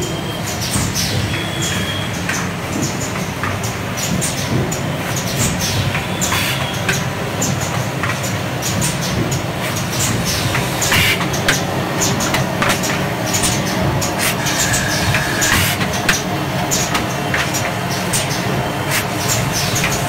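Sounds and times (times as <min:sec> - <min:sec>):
machine mechanical hum: 0:00.0 - 0:20.0
sharp mechanical clacks: 0:02.2 - 0:20.0.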